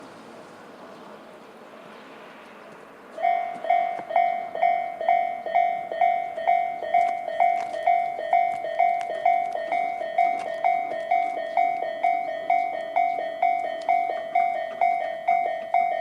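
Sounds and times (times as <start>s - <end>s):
level crossing warning bell: 3.2s - 16.0s.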